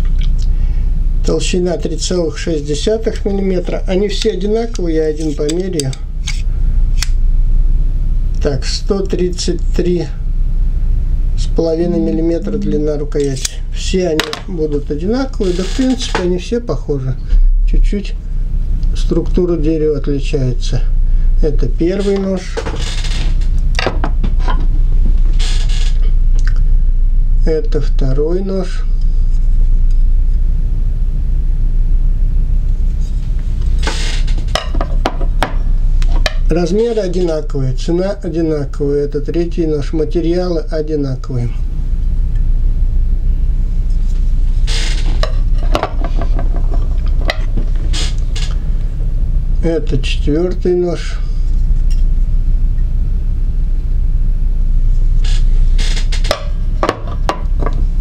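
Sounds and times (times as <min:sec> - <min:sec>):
low rumble: 0:00.0 - 0:58.0
steady low hum: 0:00.0 - 0:58.0.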